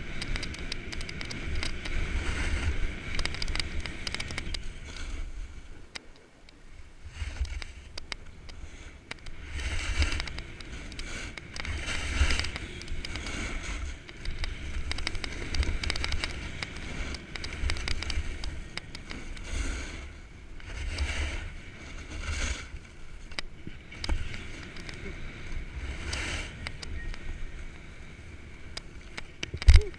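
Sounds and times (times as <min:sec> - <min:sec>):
snowboard edge scraping snow: 0:01.4 - 0:04.0, 0:04.6 - 0:05.7, 0:08.6 - 0:29.1.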